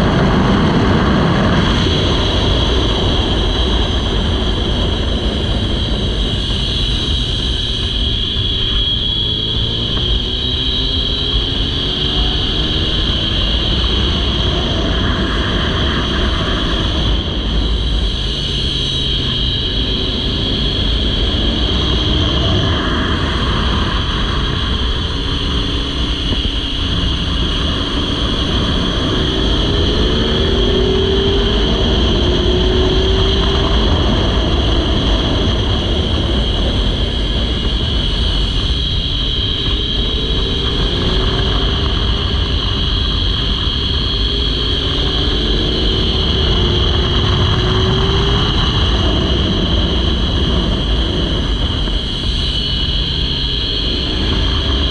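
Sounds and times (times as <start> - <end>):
motorcycle engine accelerating: 0.0 - 54.9
wind rush on microphone: 0.0 - 54.9.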